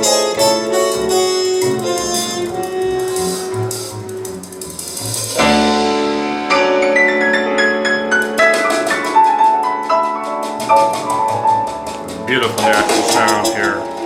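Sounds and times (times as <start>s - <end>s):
piano chords and notes: 0.0s - 14.0s.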